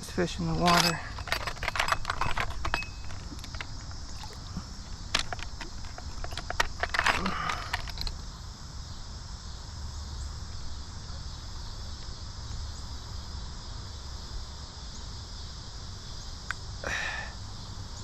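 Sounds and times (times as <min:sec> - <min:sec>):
insects chirring: 0:00.0 - 0:18.0
low outdoor rumble: 0:00.0 - 0:18.0.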